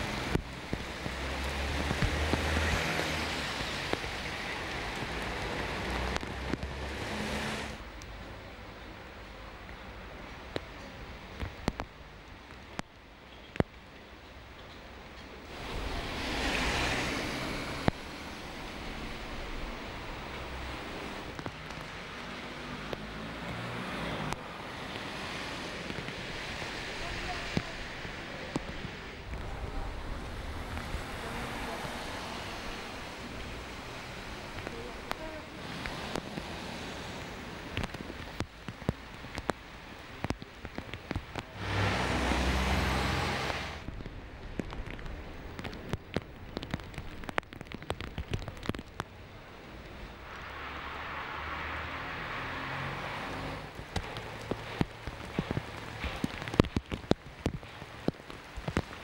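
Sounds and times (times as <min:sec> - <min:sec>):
rain hissing: 0:00.0 - 0:10.4, 0:13.9 - 0:59.0
street traffic rumble: 0:00.0 - 0:59.0
wind: 0:00.0 - 0:59.0.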